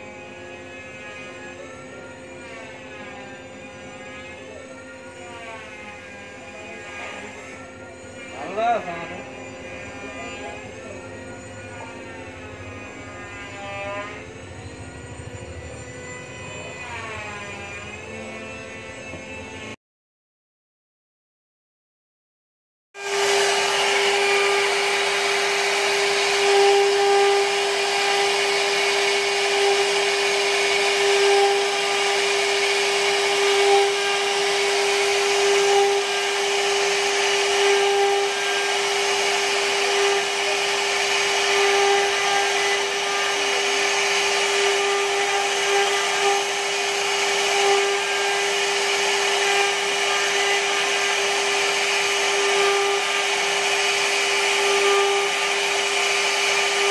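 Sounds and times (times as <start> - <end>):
router spindle running: 0.0 - 19.8, 23.0 - 56.9.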